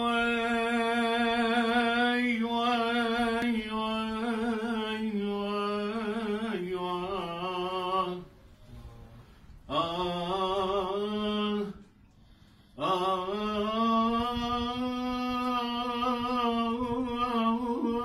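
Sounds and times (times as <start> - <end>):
man singing with ornaments: 0.0 - 8.4, 9.6 - 12.0, 12.8 - 18.0.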